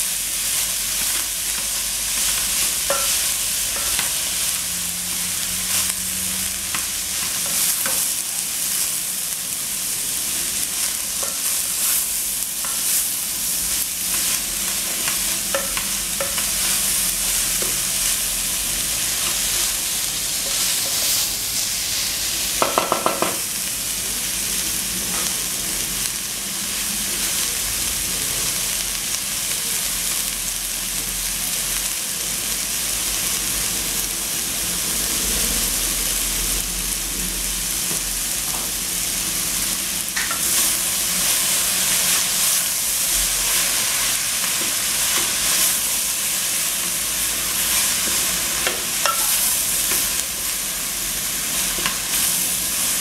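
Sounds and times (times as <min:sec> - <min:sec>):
cabbage sizzling in a pot: 0:00.0 - 0:53.0.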